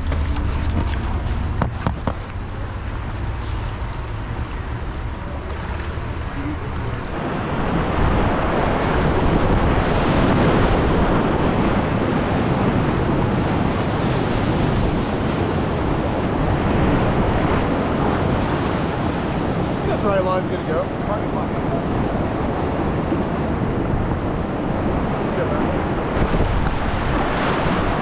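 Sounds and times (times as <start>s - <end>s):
whitewater rushing: 0.0s - 28.0s.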